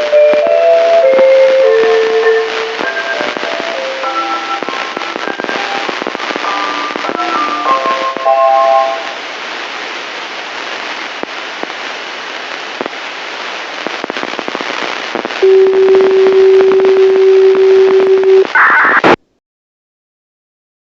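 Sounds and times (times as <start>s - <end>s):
radio hiss and crackle: 0.0s - 19.2s
burst of radio noise: 1.0s - 19.2s.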